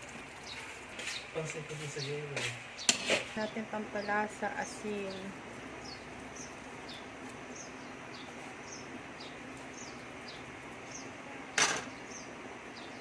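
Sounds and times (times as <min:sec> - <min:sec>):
steady hiss: 0:00.0 - 0:13.0
small bird chirping: 0:00.3 - 0:13.0.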